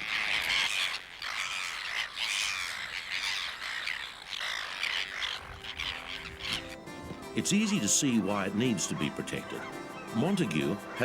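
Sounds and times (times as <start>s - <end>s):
seabird colony calling: 0.0s - 11.0s.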